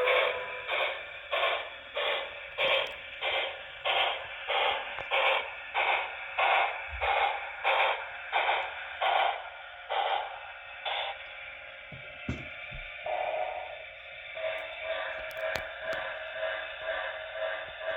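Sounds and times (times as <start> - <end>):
model train steam chuffs from small speaker: 0.0 - 12.3, 12.9 - 17.9.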